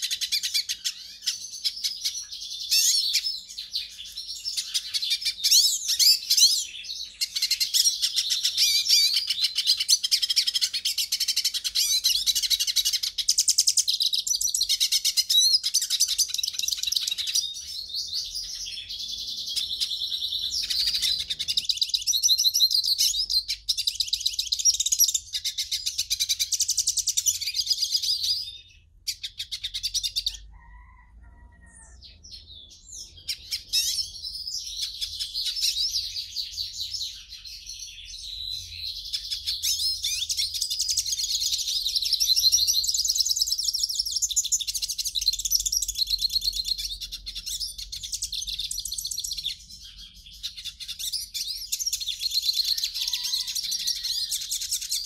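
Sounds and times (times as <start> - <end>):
finch twittering song: 0.0 - 31.0, 31.6 - 55.0.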